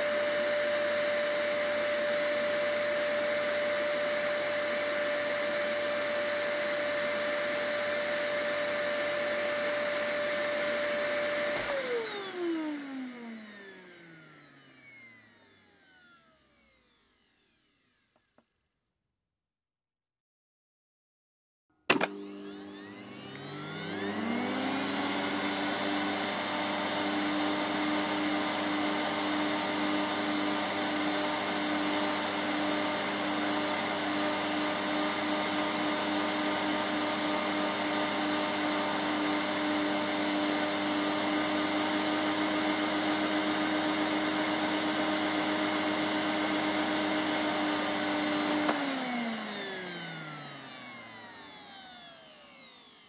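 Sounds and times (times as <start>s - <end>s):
vacuum cleaner motor: 0.0s - 18.4s, 21.9s - 53.0s.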